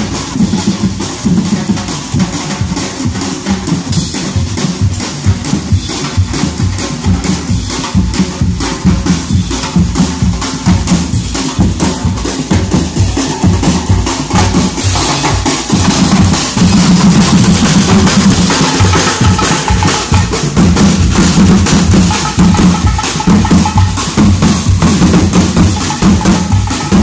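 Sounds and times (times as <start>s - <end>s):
drum ensemble playing dance beat: 0.0s - 27.0s.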